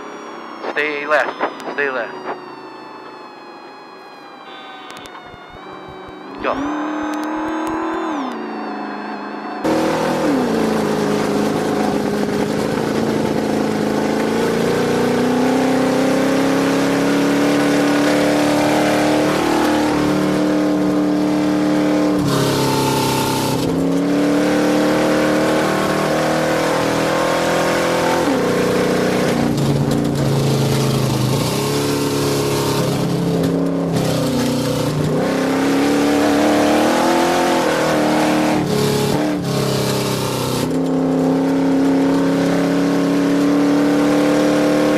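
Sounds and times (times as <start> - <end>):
truck engine revving at speed: 5.1 - 44.9.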